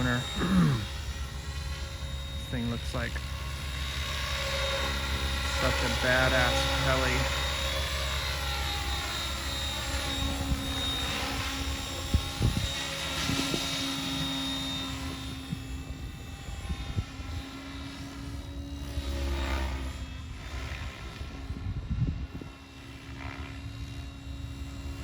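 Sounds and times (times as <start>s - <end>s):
model helicopter rotors whining: 0.0s - 25.0s.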